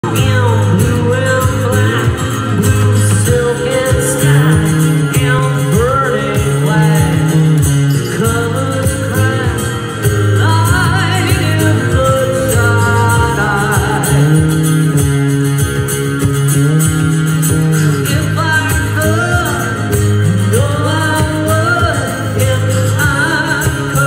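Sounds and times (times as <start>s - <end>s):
man singing: 0.0s - 15.3s, 17.4s - 24.0s
acoustic guitars: 0.0s - 24.0s
cajon beat: 0.0s - 24.0s
low bass notes: 0.0s - 24.0s.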